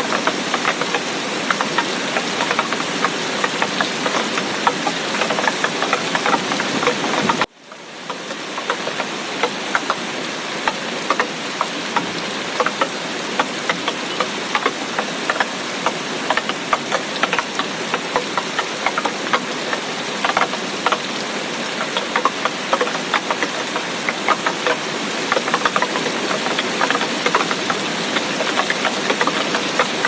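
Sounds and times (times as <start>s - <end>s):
heavy rain hissing: 0.0s - 30.0s
raindrops tapping: 0.0s - 30.0s.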